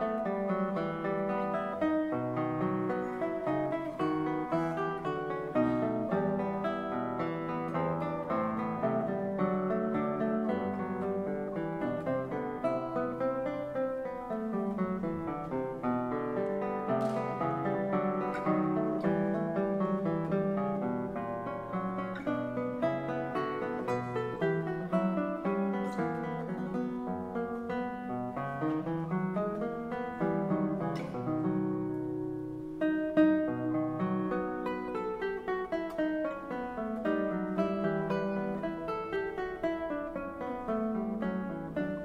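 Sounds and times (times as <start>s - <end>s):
nylon-string guitar plucking: 0.0s - 42.0s.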